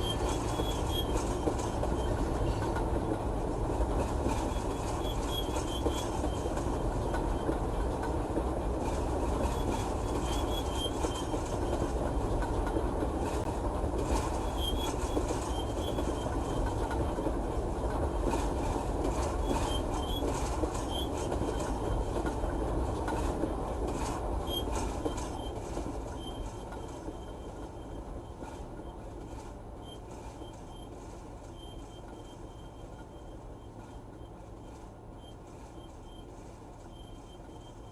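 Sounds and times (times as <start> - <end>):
train wheels rolling on rails: 0.0 - 37.9.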